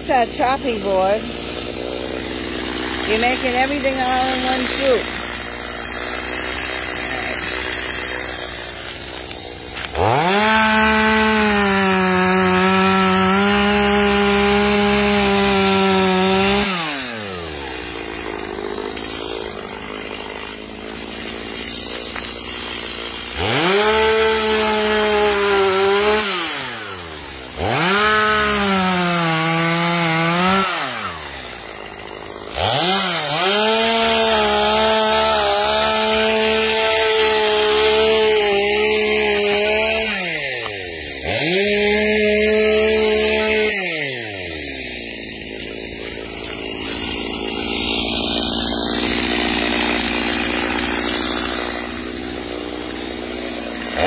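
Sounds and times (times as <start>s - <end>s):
chainsaw cutting wood at full throttle: 0.0s - 54.0s
chainsaw idling: 0.0s - 54.0s.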